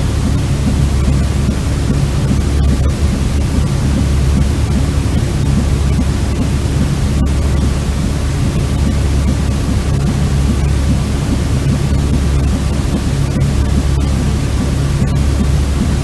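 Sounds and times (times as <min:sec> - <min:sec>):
white noise: 0:00.0 - 0:16.0.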